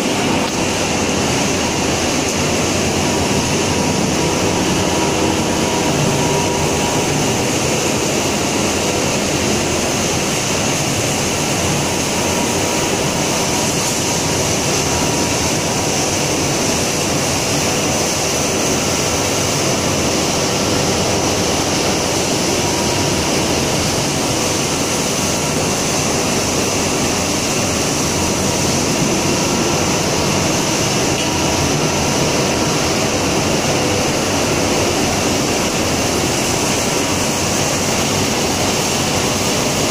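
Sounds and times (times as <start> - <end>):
machinery drone: 0.0 - 39.9.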